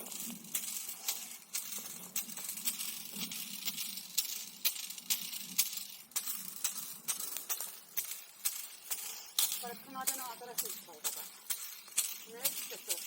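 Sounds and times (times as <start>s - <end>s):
charcoal pieces clinking: 0.0s - 13.0s.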